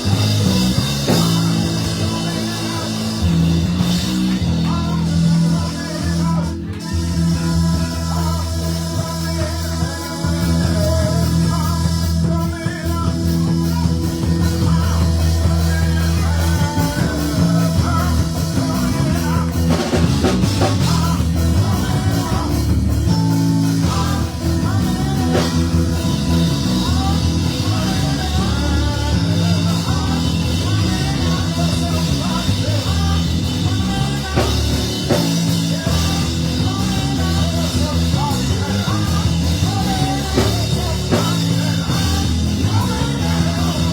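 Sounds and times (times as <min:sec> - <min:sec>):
live rock band: 0:00.0 - 0:43.9
people singing: 0:00.0 - 0:43.9.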